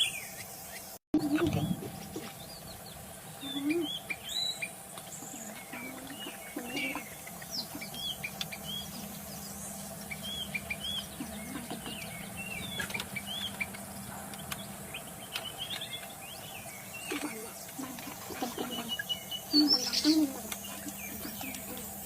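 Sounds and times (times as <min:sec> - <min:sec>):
steady low hum: 0:00.0 - 0:22.0
low clucking calls: 0:01.2 - 0:22.0
bird whistling and chirping: 0:02.2 - 0:13.8, 0:14.5 - 0:21.9.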